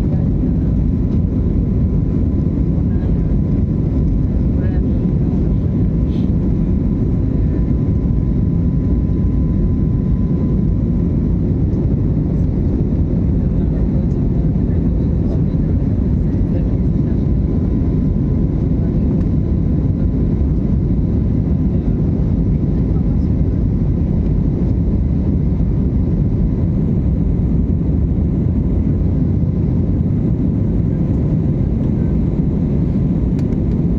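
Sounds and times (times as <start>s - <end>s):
jet engines and rushing air: 0.0s - 33.9s.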